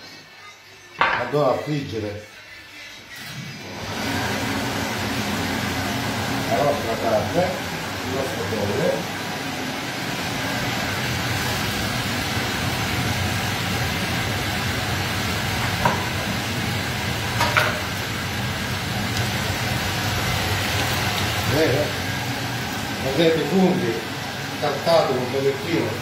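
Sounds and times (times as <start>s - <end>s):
chicken deep-frying in oil: 3.7s - 26.0s.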